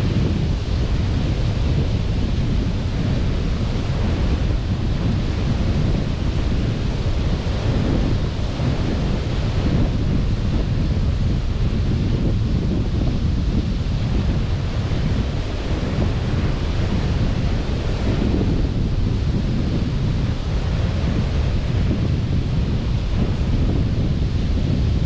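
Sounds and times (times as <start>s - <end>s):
sea surf washing onto beach: 0.0s - 25.0s
wind buffeting microphone: 0.0s - 25.0s.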